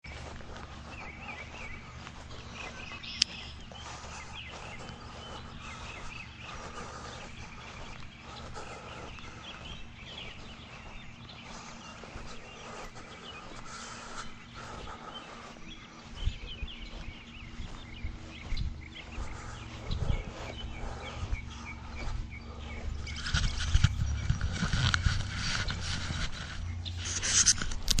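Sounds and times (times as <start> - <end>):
outdoor background: 0.0 - 28.0
small birds chirping: 0.0 - 28.0.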